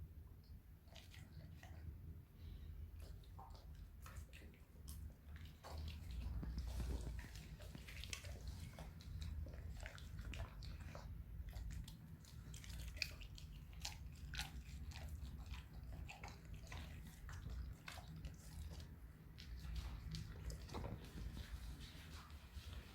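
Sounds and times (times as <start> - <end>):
dog chewing and licking: 0.8 - 22.9.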